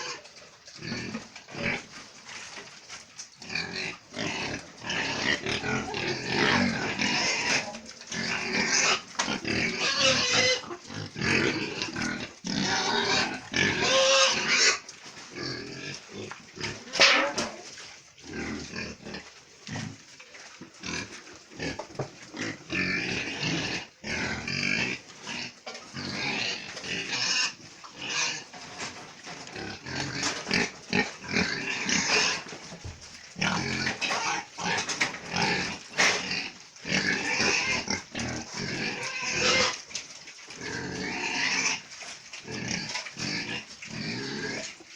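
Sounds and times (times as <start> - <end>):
pigs grunting and squealing: 0.0 - 44.9.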